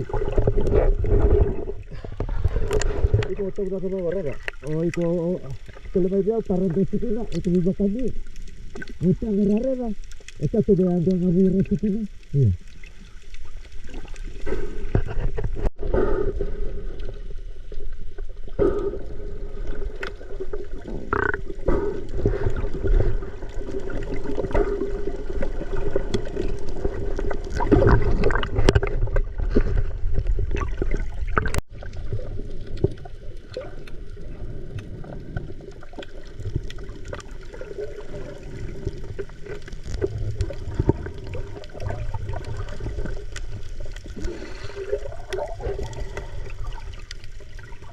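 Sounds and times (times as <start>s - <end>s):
water gurgling and sloshing: 0.0s - 47.9s.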